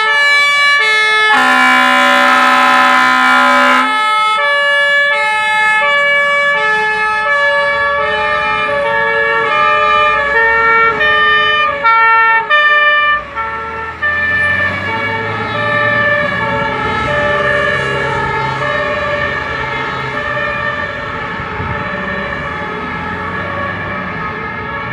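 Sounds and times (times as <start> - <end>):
two-tone fire truck sirens: 0.0 - 24.9
diesel truck engine rumble: 0.6 - 24.9.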